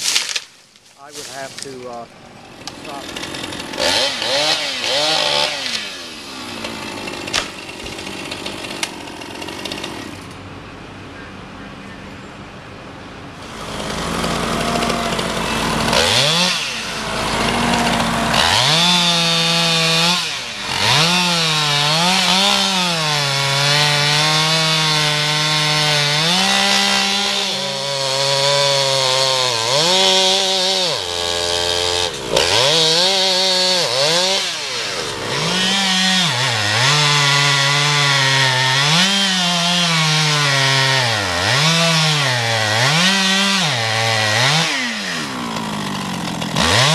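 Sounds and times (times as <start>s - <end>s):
chainsaw cutting log: 0.0s - 10.4s, 13.4s - 46.9s.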